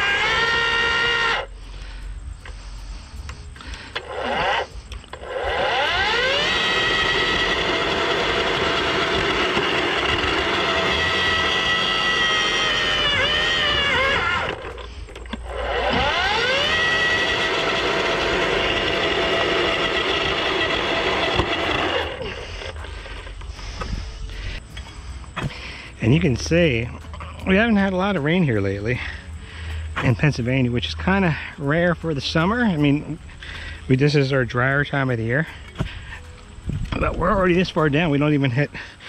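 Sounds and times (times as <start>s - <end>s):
earth auger motor whining: 0.0s - 39.0s.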